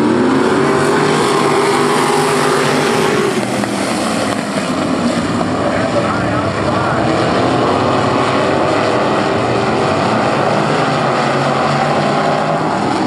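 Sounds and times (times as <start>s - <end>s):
engine revving: 0.0s - 13.0s
racing car engines: 0.0s - 13.0s.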